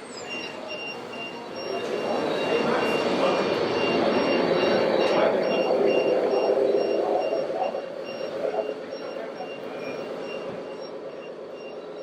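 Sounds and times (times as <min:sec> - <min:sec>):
short high reversing beeps: 0:00.0 - 0:12.0
voices: 0:00.0 - 0:12.0.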